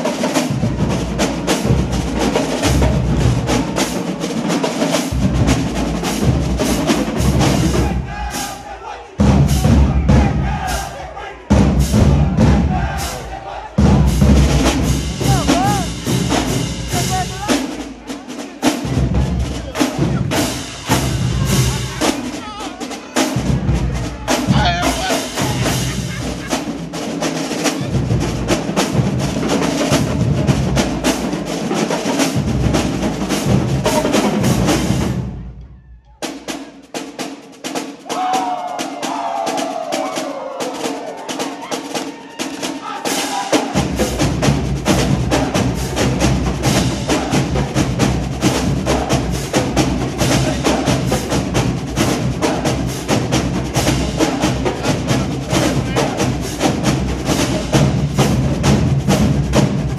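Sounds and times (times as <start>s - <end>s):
marching drumline playing: 0.0s - 59.9s.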